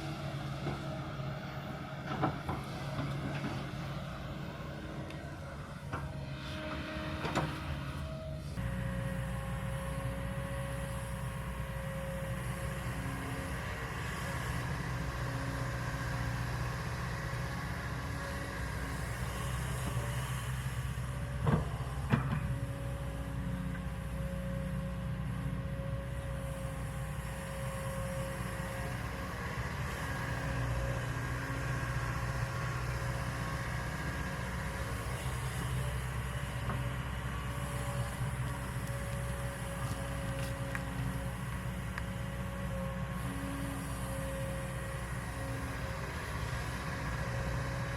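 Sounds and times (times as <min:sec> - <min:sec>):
excavator diesel engine running: 0:00.0 - 0:47.9
hydraulic whine: 0:00.0 - 0:47.9.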